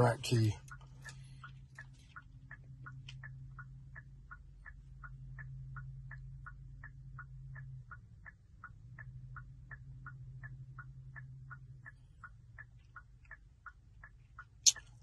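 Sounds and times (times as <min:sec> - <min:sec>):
hazard indicator ticking: 0:00.0 - 0:15.0
low hum: 0:00.0 - 0:15.0.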